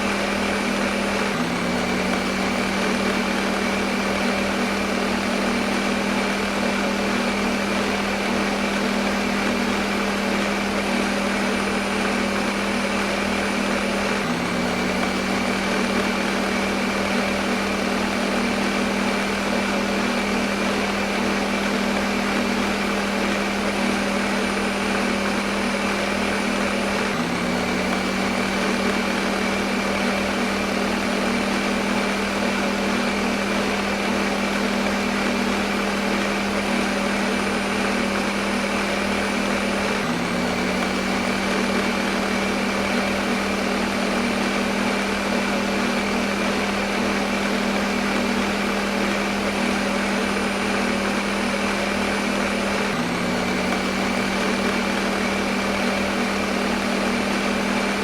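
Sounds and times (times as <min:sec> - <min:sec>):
blender motor whirring: 0:00.0 - 0:58.0.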